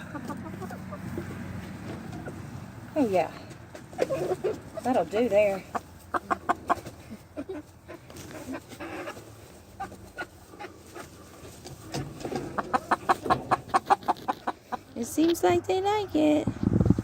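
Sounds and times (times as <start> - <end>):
chickens clucking softly: 0.0 - 2.9, 3.5 - 15.0
chickens pecking taps: 0.0 - 14.8.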